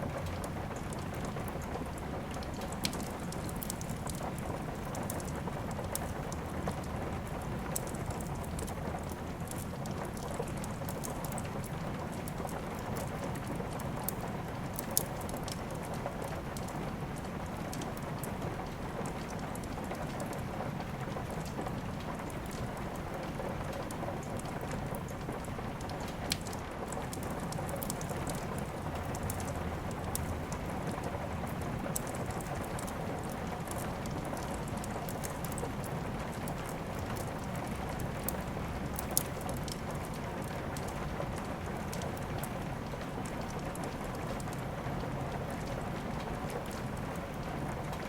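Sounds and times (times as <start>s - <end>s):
steady rain falling: 0.0s - 48.0s
wood fire crackling and popping: 0.1s - 48.0s.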